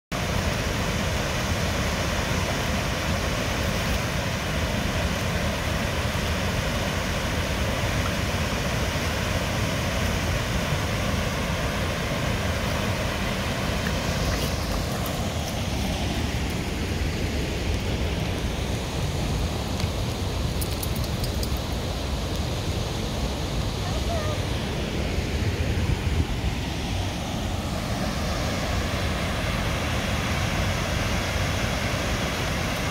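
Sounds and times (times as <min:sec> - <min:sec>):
river rapids roaring: 0:00.2 - 0:32.9.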